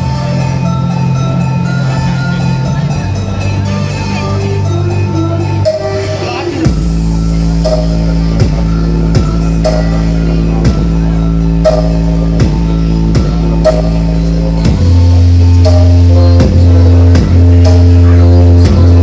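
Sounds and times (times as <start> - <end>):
drum beat falling in pitch: 0.0 - 19.0
heavy bass note: 0.0 - 19.0.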